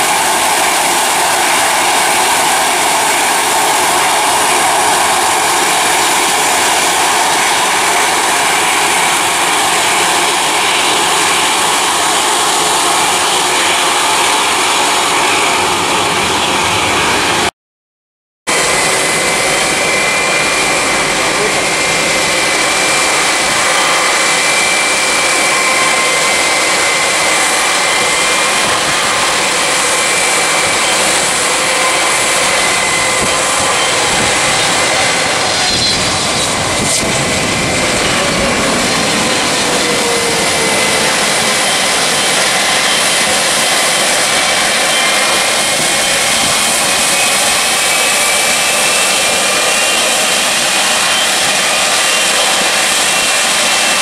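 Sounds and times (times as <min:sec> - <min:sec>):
jet airliner passing overhead: 0:00.0 - 0:17.5, 0:18.5 - 0:54.0.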